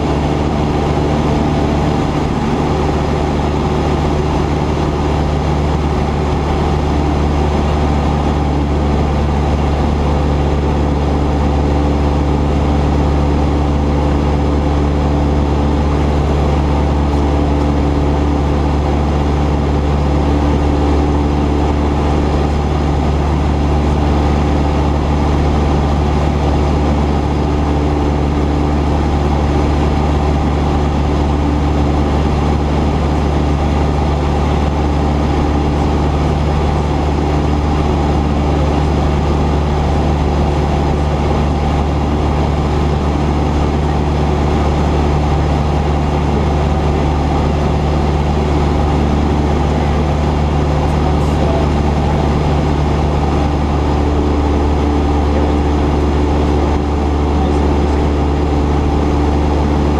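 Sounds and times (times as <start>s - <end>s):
airplane engine and propeller running: 0.0s - 59.9s.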